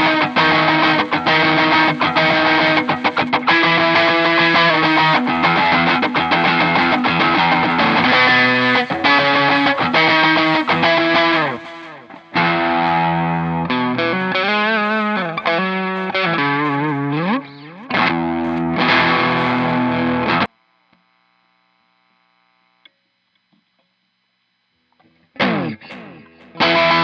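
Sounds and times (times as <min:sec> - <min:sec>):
distorted electric guitar: 0:00.0 - 0:20.6, 0:24.0 - 0:27.0
faint hum: 0:00.0 - 0:27.0.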